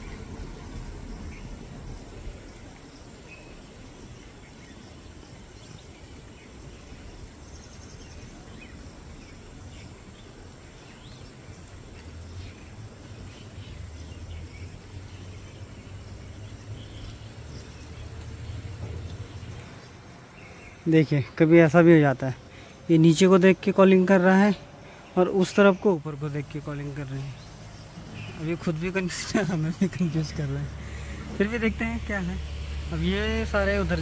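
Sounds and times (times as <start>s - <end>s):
insects humming: 0.0s - 34.0s.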